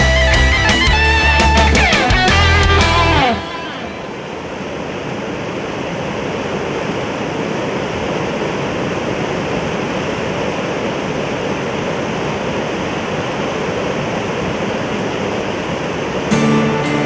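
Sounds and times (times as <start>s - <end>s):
river rushing over rapids: 2.8s - 17.0s.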